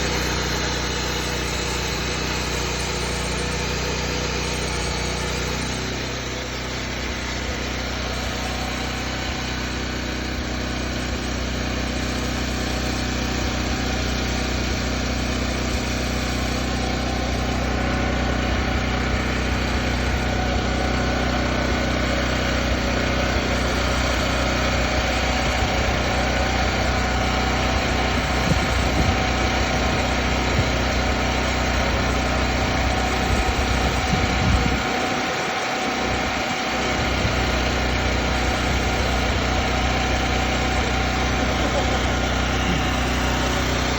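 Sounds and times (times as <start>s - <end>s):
core drill engine running: 0.0s - 43.9s.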